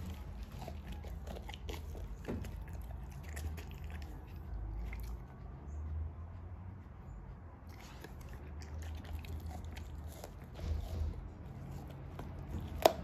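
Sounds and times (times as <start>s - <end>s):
dog chewing meat: 0.0s - 5.4s, 7.6s - 13.0s.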